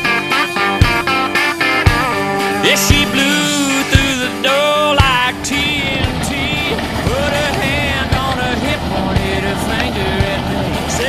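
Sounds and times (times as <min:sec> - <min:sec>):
country music: 0:00.0 - 0:11.0.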